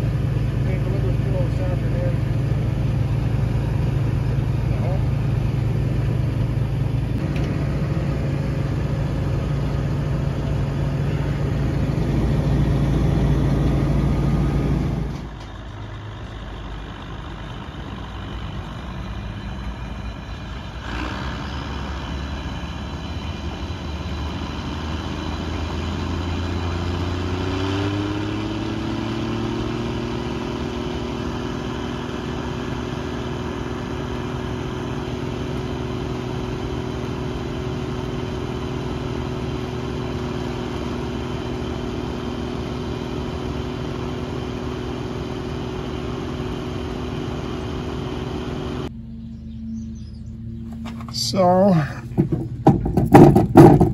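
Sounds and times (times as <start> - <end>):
combine harvester engine running: 0.0 - 53.9.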